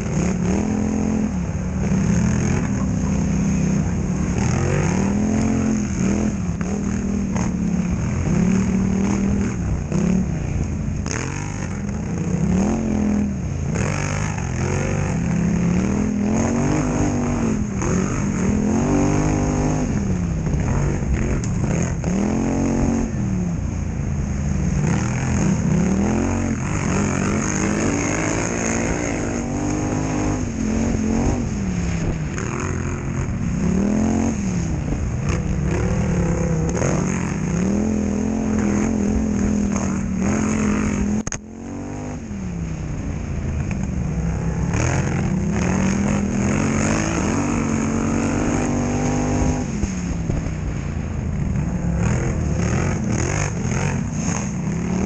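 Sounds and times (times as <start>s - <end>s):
quad engine revving: 0.0s - 23.4s, 24.3s - 42.3s, 43.6s - 50.8s, 51.5s - 55.0s.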